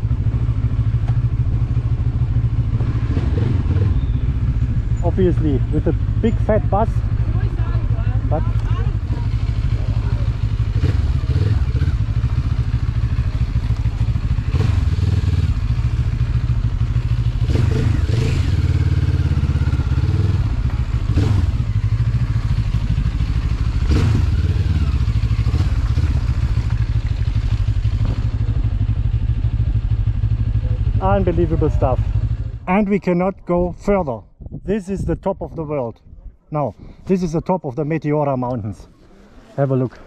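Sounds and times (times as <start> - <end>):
motorcycle engine running: 0.0 - 33.4.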